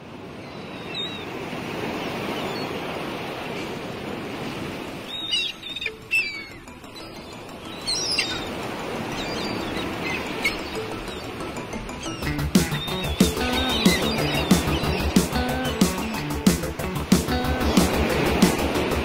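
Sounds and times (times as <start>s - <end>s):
wind and water rushing: 0.0s - 19.0s.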